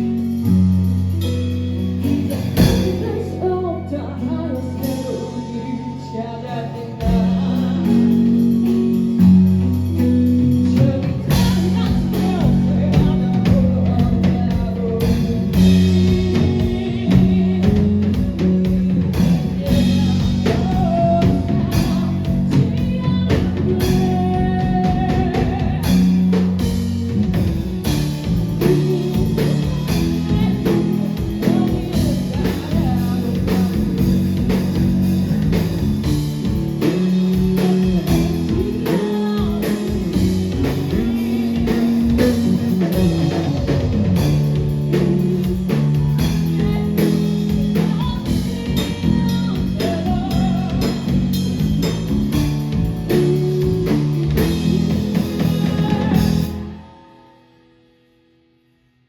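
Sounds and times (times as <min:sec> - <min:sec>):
live rock band playing: 0:00.0 - 0:57.4
person singing: 0:01.8 - 0:26.4, 0:27.3 - 0:34.8, 0:36.4 - 0:51.6, 0:53.0 - 0:57.5.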